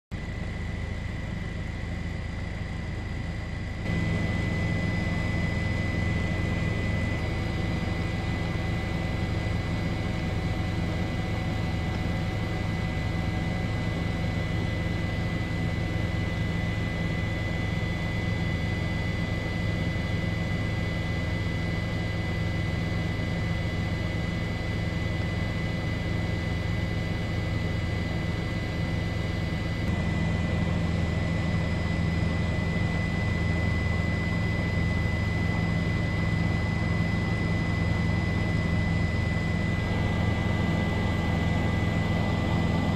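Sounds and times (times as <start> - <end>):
helicopter engine and rotor: 0.1 - 42.9.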